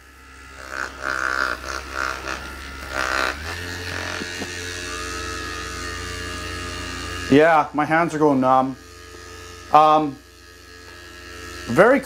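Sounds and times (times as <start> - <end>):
massage balls buzzing: 0.0 - 12.0.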